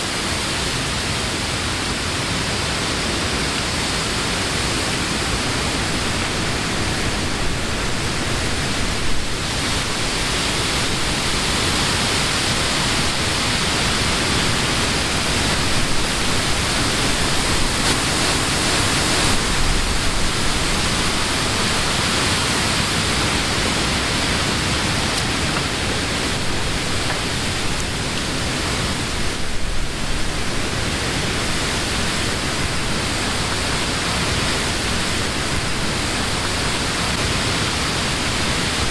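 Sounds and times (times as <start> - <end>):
wind rustling leaves: 0.0 - 38.9.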